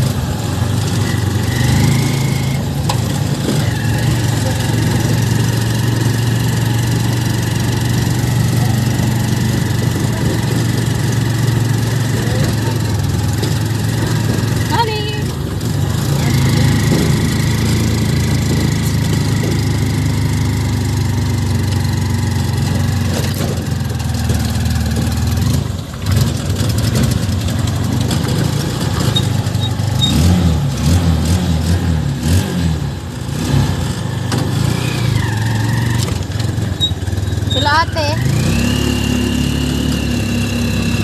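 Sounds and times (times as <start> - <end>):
road and wind noise: 0.0 - 41.0
vehicle engine running: 0.0 - 41.0.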